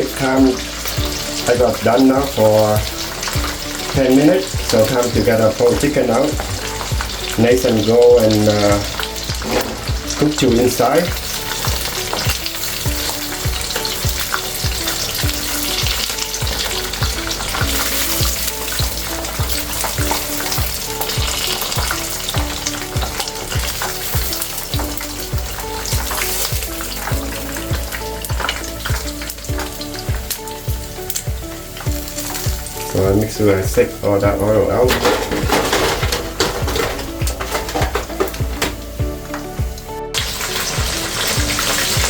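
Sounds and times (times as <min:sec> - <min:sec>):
chicken wings frying in oil: 0:00.0 - 0:42.0.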